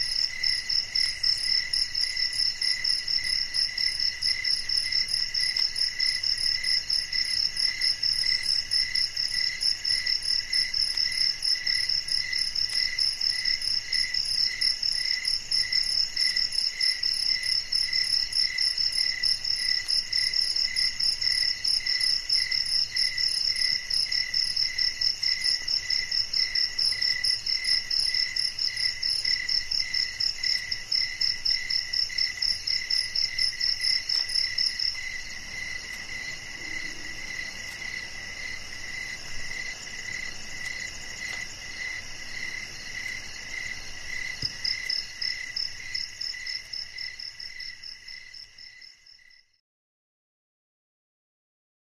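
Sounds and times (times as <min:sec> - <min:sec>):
crickets chirping: 0:00.0 - 0:49.6.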